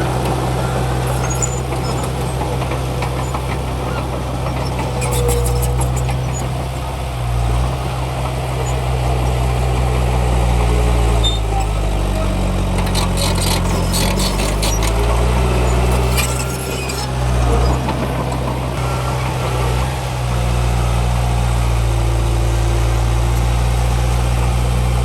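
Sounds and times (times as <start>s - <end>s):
heavy diesel engine under load: 0.0s - 25.0s.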